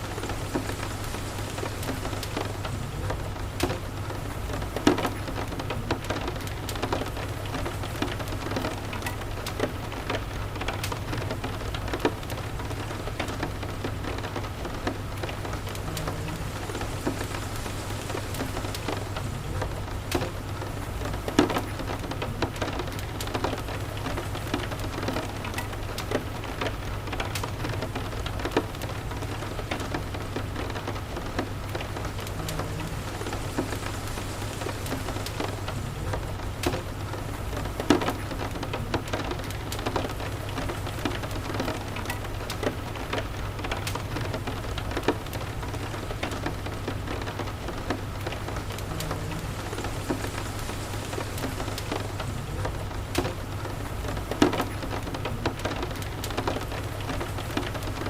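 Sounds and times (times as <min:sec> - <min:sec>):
rain: 0:00.0 - 0:58.0
wood fire crackling: 0:00.0 - 0:58.0.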